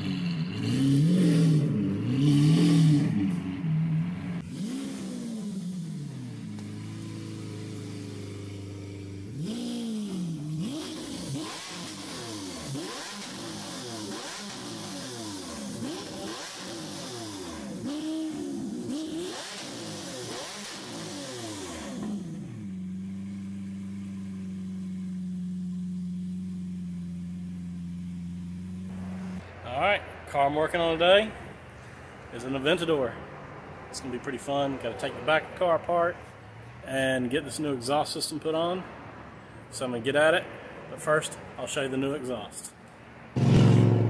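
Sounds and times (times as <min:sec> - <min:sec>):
car engine revving and idling: 0:00.0 - 0:37.8, 0:43.3 - 0:44.0.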